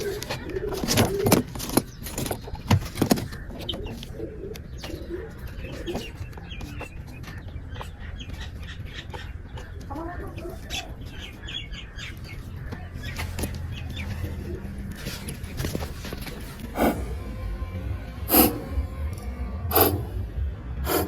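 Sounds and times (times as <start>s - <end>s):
pigeons cooing: 0.0s - 20.2s
birds chirping: 0.0s - 21.0s.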